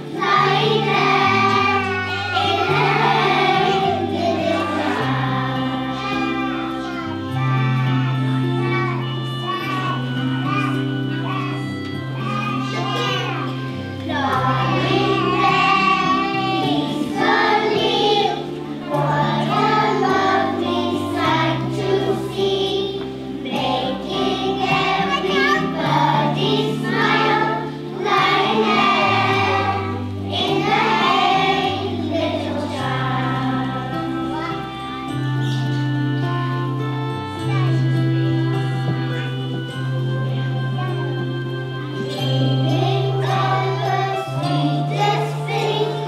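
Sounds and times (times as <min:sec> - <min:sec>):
children's choir singing: 0:00.0 - 0:46.0
instrumental accompaniment low notes: 0:00.0 - 0:46.0.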